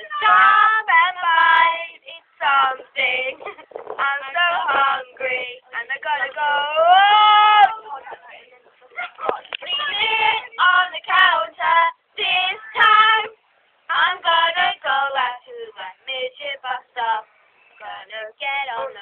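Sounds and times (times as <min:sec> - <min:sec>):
girl singing unaccompanied: 0:00.0 - 0:08.2, 0:09.0 - 0:19.0.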